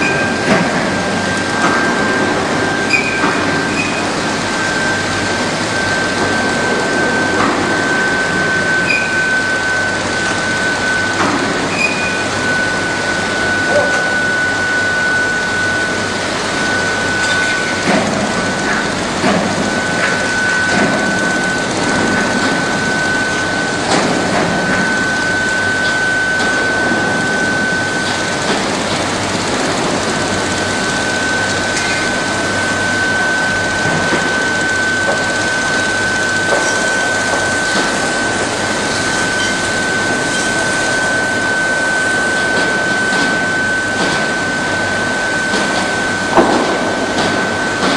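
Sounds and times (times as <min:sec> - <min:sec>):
foundry roar: 0:00.0 - 0:47.9
furnace high-pitched whine: 0:00.0 - 0:47.9.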